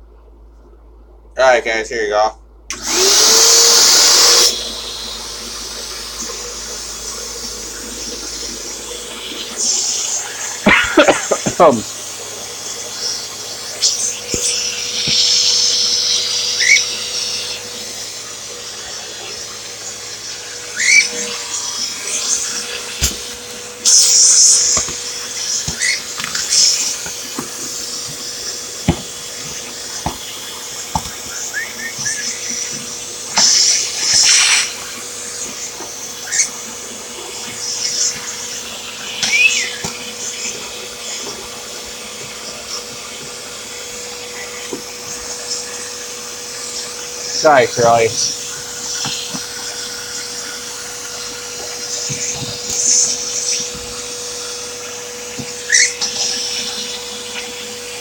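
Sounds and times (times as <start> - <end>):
vacuum suction hiss: 1.4 - 58.0
vacuum cleaner motor hum: 2.7 - 58.0.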